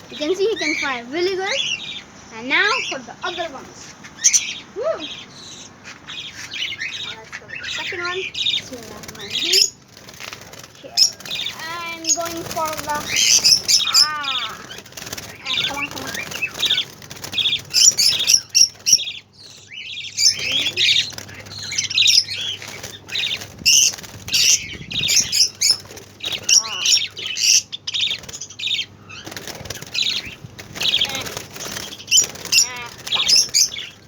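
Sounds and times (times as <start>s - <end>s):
birds flapping wings: 0.0s - 1.9s, 5.8s - 34.0s
budgerigars chirping: 0.0s - 34.0s.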